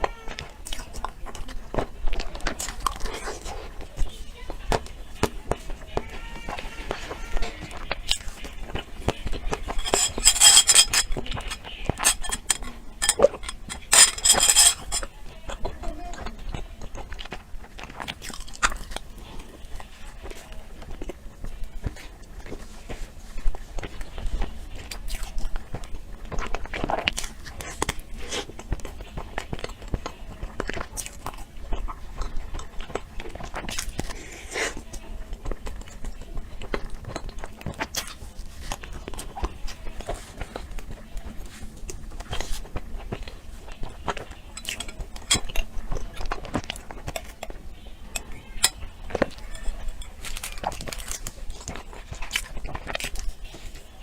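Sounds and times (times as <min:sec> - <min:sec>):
dessert being chewed: 0:00.0 - 0:54.0
crunching: 0:04.7 - 0:54.0.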